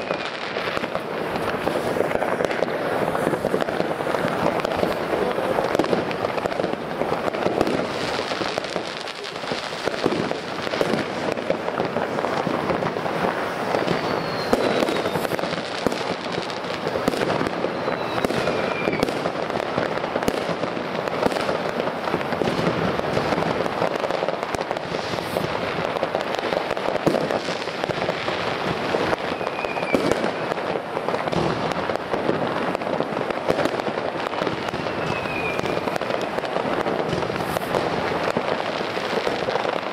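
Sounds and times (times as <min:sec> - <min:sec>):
falling firework whistles: 0:00.0 - 0:05.0, 0:05.7 - 0:20.4, 0:24.2 - 0:32.4, 0:33.3 - 0:39.8
fireworks crackling and popping: 0:00.0 - 0:39.9.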